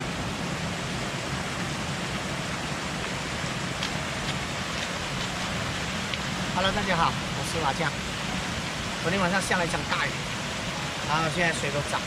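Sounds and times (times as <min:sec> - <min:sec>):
water rushing over small dam: 0:00.0 - 0:12.0.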